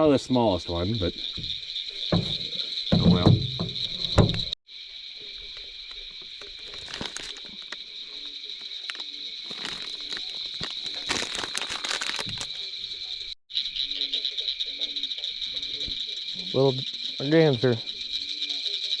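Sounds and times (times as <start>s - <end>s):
insect chorus trilling: 0.0s - 19.0s.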